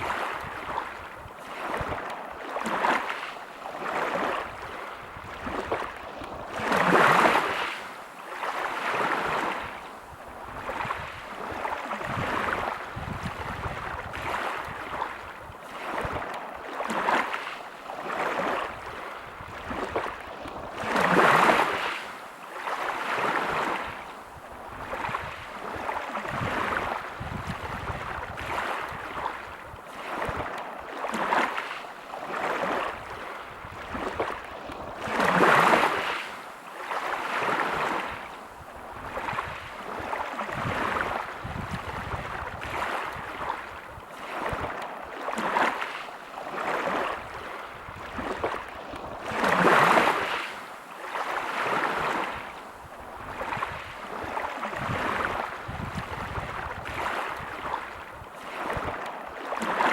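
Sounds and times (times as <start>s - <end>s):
waves breaking on pebble beach: 0.0s - 9.8s, 10.5s - 24.0s, 24.8s - 38.2s, 39.0s - 59.9s.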